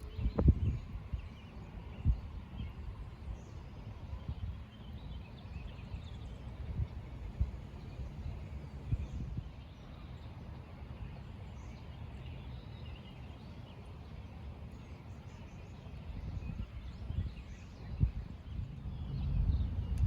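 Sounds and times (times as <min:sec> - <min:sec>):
birdsong: 0:00.0 - 0:20.0
wind rumble on microphone: 0:00.0 - 0:20.0.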